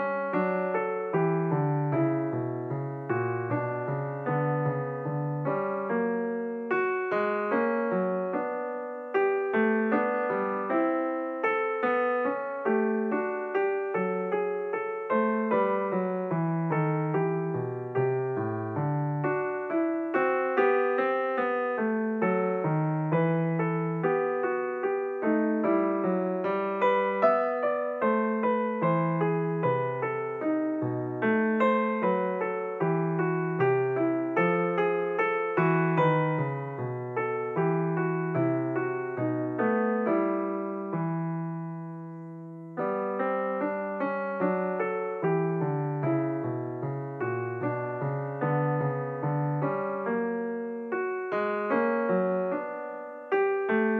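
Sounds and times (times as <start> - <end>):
solo piano music: 0.0 - 53.9.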